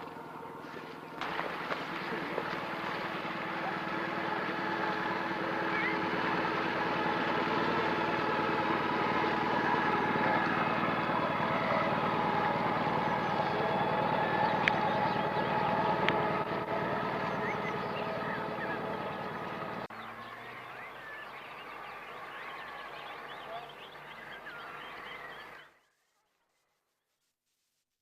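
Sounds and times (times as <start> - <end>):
motor running: 0.0 - 25.6.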